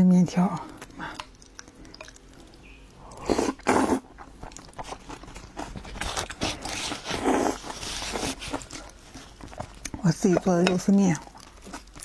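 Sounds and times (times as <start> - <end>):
person chewing: 0.5 - 12.0.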